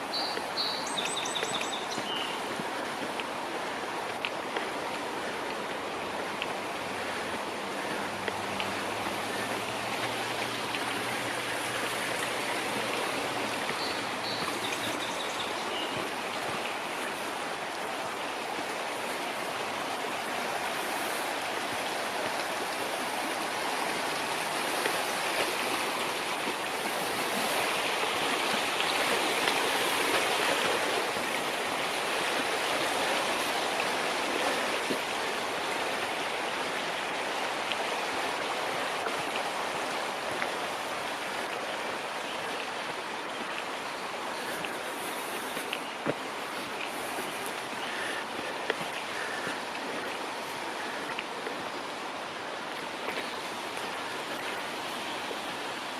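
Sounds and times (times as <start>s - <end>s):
stream rushing over rocks: 0.0s - 55.9s.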